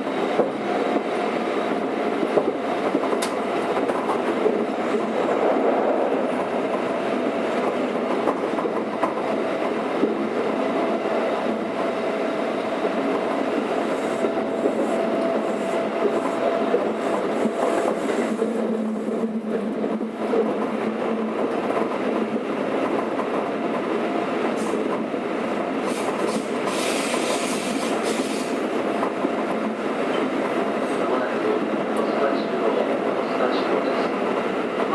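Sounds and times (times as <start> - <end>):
clickety-clack over rail joints: 0.0 - 34.9
train wheels rumbling on rails: 0.0 - 34.9.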